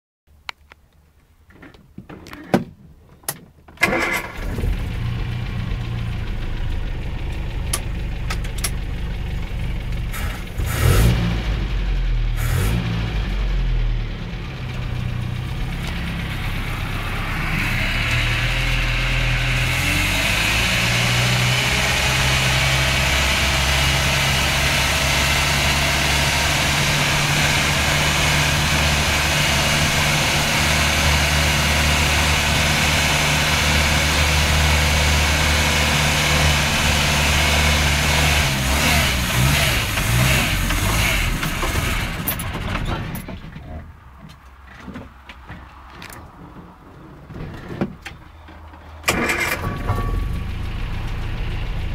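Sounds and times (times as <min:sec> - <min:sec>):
car engine running: 0:03.9 - 0:43.5, 0:49.1 - 0:51.9.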